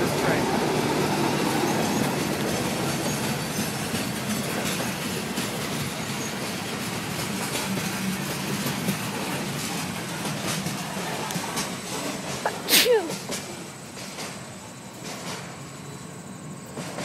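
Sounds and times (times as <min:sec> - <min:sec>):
train wheels rumbling on rail: 0:00.0 - 0:17.0
wheels clicking and clacking: 0:01.5 - 0:15.6.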